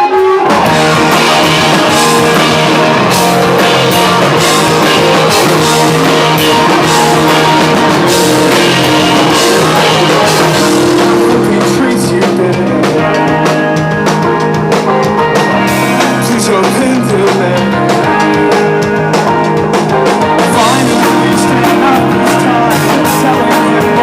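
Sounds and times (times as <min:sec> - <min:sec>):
drum kit: 0:00.0 - 0:24.0
electric guitar: 0:00.0 - 0:24.0.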